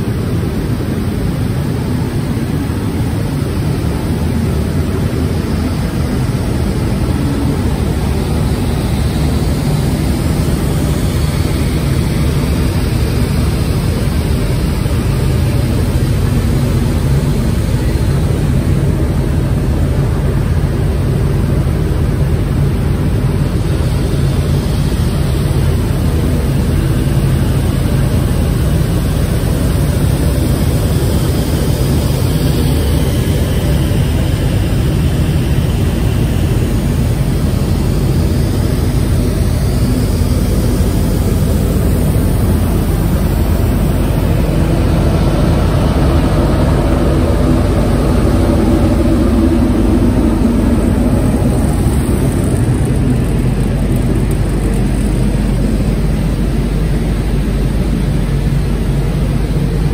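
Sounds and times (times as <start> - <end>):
washing machine droning: 0.0 - 59.9.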